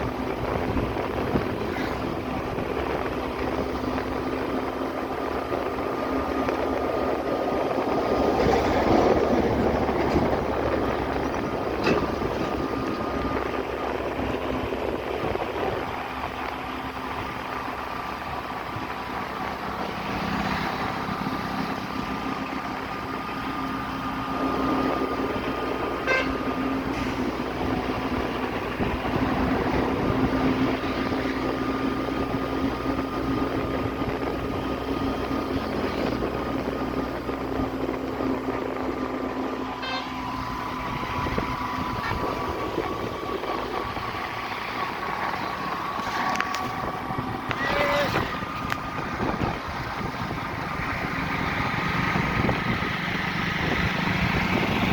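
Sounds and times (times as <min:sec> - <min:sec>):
road noise: 0:00.0 - 0:54.9
vehicle engine hum: 0:00.0 - 0:54.9.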